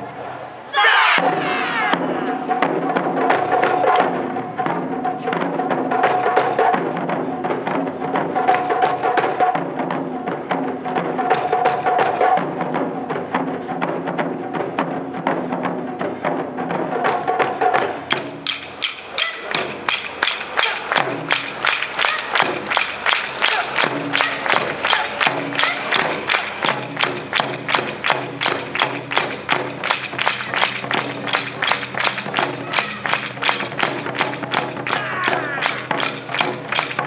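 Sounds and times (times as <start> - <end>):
taiko drum ensemble: 0.7 - 37.0.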